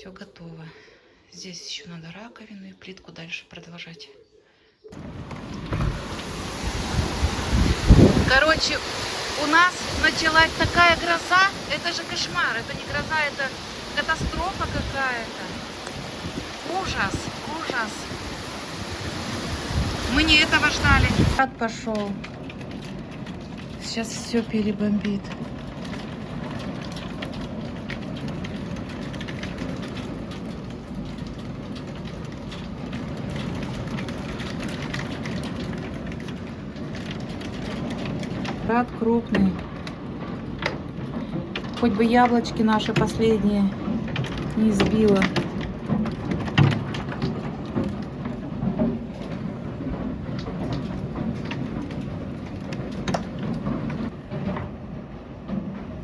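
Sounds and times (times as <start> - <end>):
hailstones and heavy rain pelting: 5.0 - 56.0.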